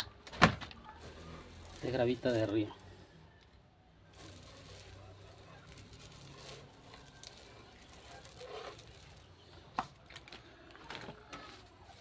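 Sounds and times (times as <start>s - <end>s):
gravel crunching by hand: 0.0s - 12.0s.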